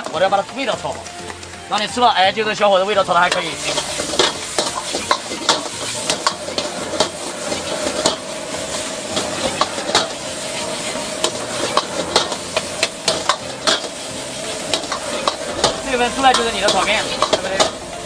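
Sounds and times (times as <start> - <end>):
rice sizzling in a wok: 0.0 - 18.0
metal ladle scraping a wok: 3.4 - 18.0.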